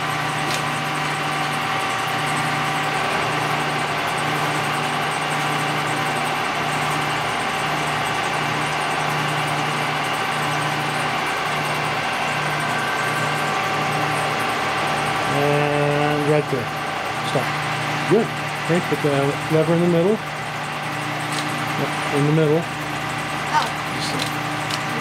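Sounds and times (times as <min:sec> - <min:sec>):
milling machine humming: 0:00.0 - 0:25.0.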